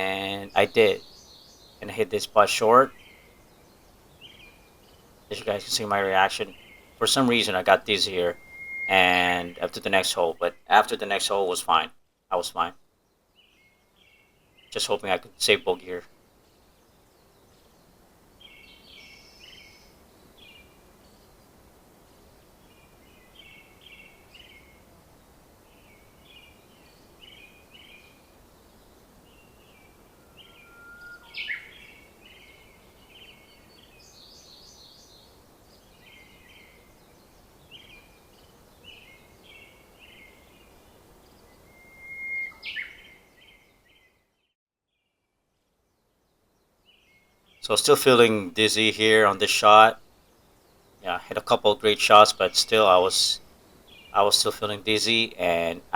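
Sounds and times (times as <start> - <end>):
birds chirping: 0.0 - 44.2, 46.0 - 55.9
faint outdoor background: 0.0 - 55.9.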